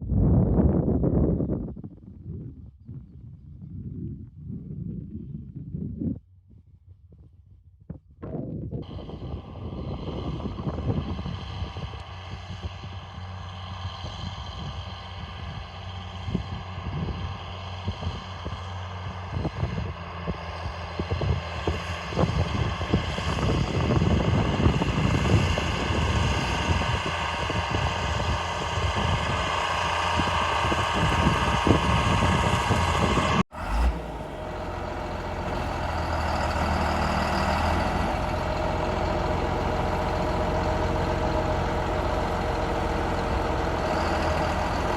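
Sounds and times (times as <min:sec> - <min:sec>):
tractor diesel engine running: 0:08.8 - 0:44.9.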